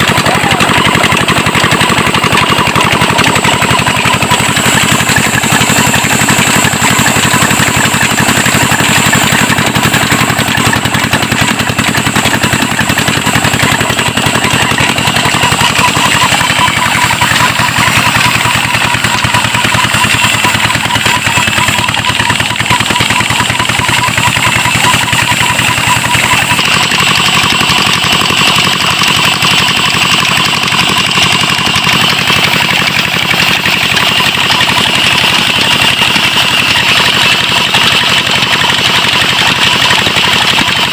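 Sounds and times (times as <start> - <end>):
diesel engine running: 0.0 - 40.9
saw machine whine: 0.0 - 40.9.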